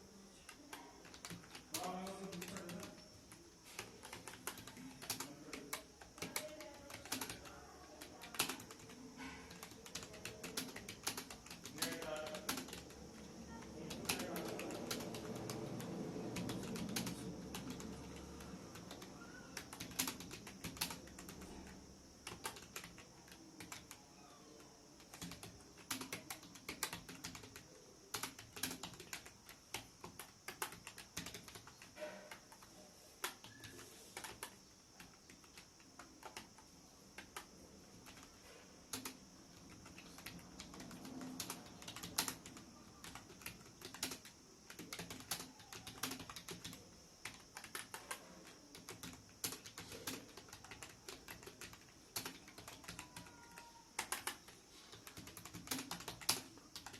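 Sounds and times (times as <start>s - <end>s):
computer keyboard typing: 0.1s - 56.9s.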